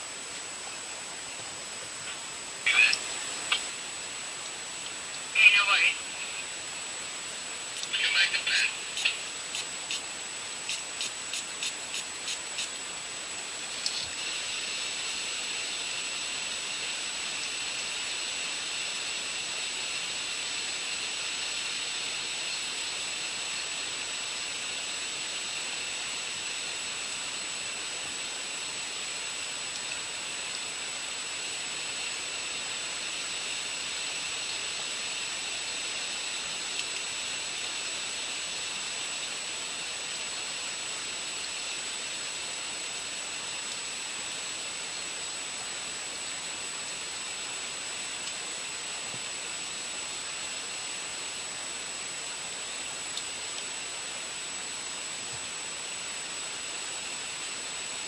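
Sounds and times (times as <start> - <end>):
high thin whine: 0.0 - 58.0
steady hiss: 0.0 - 58.0.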